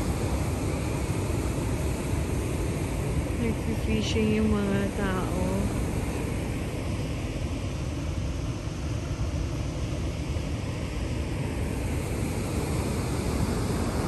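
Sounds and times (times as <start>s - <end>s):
water roaring through spillway: 0.0s - 14.0s.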